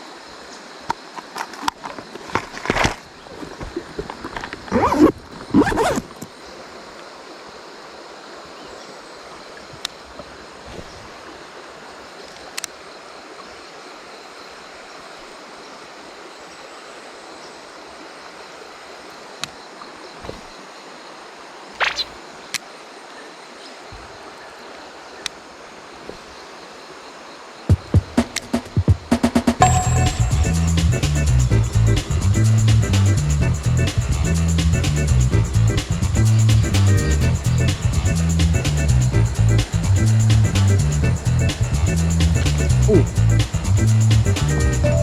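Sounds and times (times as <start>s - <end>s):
stream water running: 0.0s - 45.0s.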